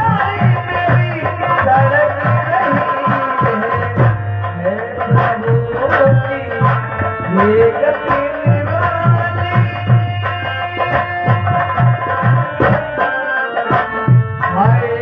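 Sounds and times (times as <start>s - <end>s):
hand drum pattern: 0.0s - 15.0s.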